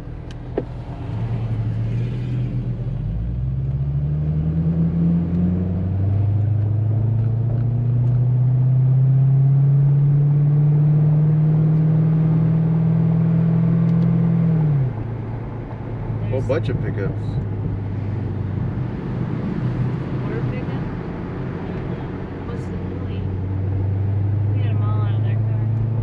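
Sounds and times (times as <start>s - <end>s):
car engine revving and cruising: 0.0s - 26.0s.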